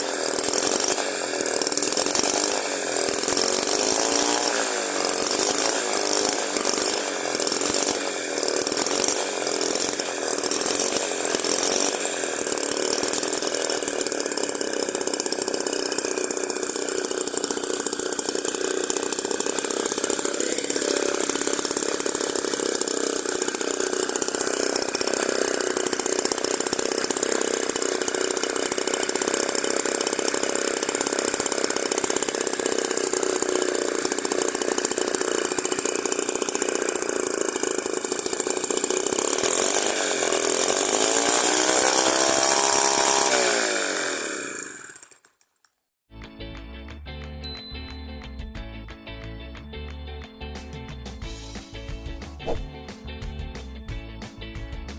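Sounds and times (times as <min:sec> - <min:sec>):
small two-stroke engine buzzing: 0:00.0 - 0:45.4.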